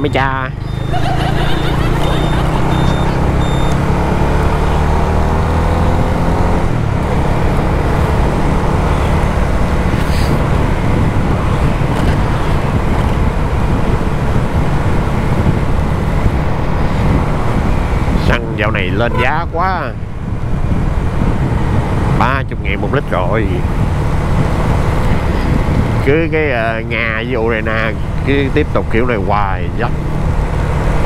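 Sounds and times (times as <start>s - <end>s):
wind and road noise: 0.0s - 31.0s
motorcycle engine accelerating: 0.1s - 31.0s.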